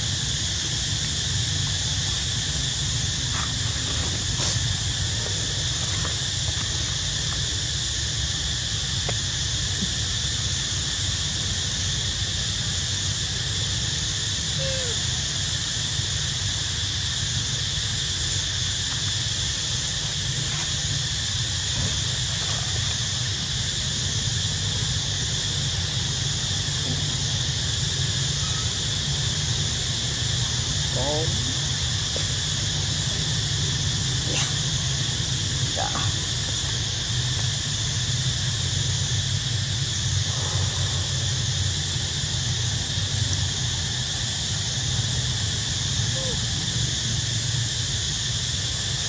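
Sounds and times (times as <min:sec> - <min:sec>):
insect chorus: 0:00.0 - 0:49.0
low steady rumble: 0:00.0 - 0:49.0.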